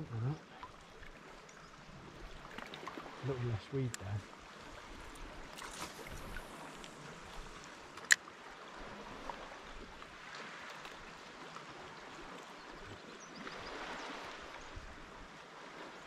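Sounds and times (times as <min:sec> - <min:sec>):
water lapping around kayak: 0:00.0 - 0:16.0.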